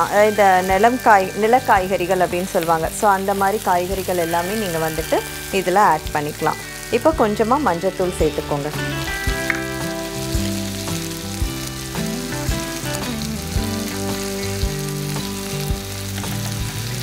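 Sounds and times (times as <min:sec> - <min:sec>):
vegetables sizzling in a pot: 0:00.0 - 0:17.0.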